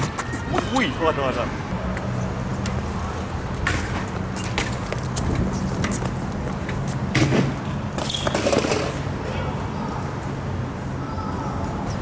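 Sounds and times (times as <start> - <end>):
low hum of traffic: 0.0 - 12.0.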